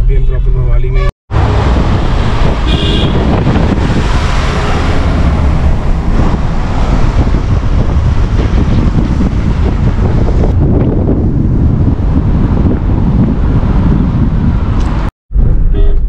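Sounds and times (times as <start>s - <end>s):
car engine and road rumble: 0.0s - 16.0s
wind buffeting microphone: 1.3s - 16.0s.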